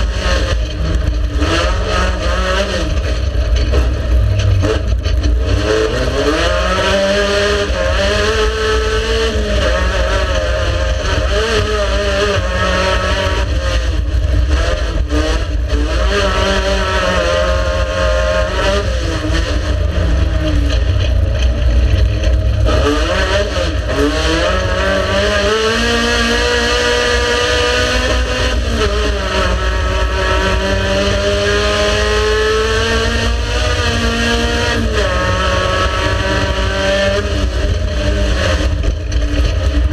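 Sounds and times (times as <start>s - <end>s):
heavy low rumble: 0.0s - 6.4s, 7.0s - 26.1s, 28.2s - 39.9s
race car engine revving: 0.0s - 39.9s.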